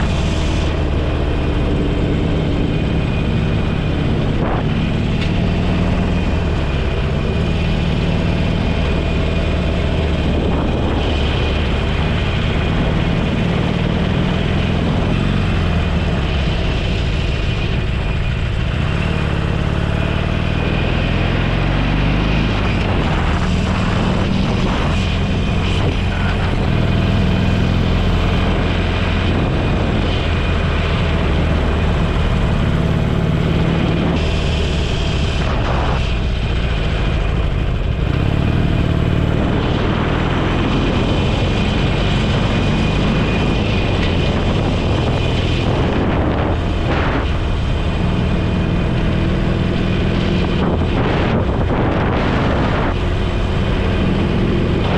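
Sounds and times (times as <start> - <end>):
motorcycle engine running: 0.0 - 54.9
road noise: 0.0 - 54.9
wind noise: 0.0 - 54.9.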